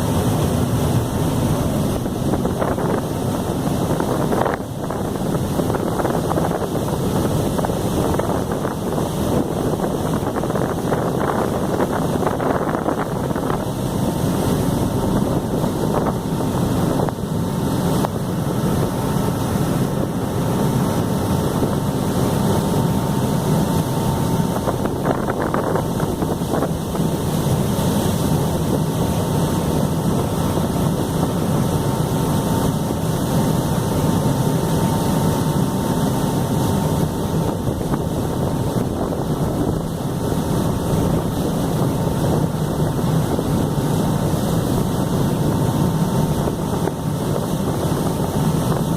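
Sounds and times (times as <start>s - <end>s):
water rushing: 0.0s - 48.9s
wind buffeting microphone: 0.0s - 48.9s.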